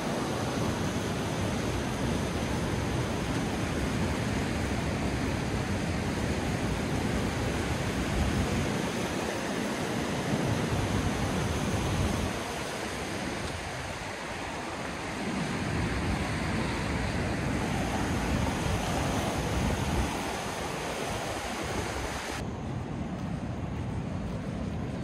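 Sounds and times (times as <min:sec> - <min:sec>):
rushing whitewater: 0:00.0 - 0:22.5
wind buffeting microphone: 0:00.4 - 0:25.0.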